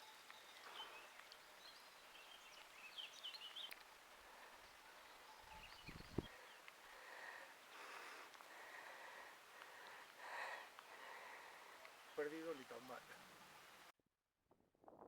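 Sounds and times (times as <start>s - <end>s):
faint bird chirping: 0.0s - 13.9s.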